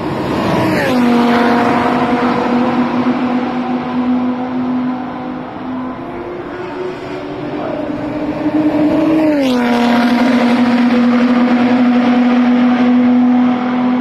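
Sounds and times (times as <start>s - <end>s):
car engine on track: 0.0s - 14.0s.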